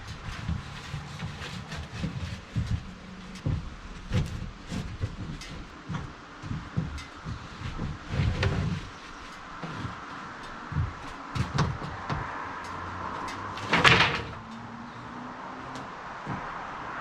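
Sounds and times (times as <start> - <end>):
handling knocks and thumps: 0.0 - 14.8, 15.6 - 17.0
scraping clatter: 0.0 - 15.0.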